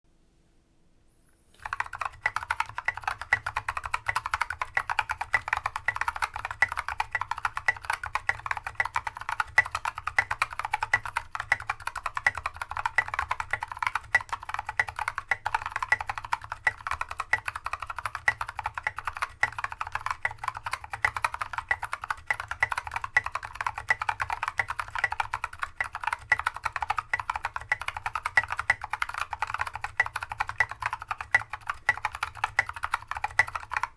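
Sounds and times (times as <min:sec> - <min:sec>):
fast typing on mechanical keyboard: 0:01.6 - 0:33.9.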